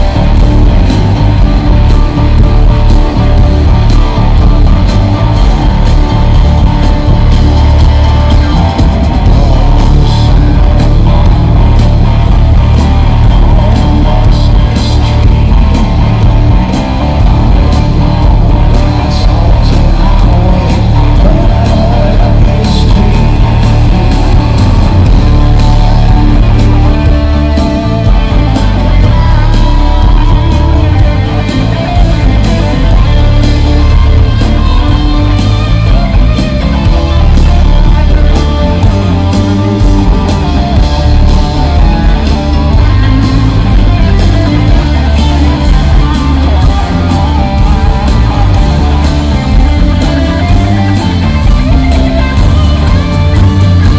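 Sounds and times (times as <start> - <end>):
bass guitar: 0.0 - 53.9
drums: 0.0 - 53.9
electric guitar: 0.0 - 53.9.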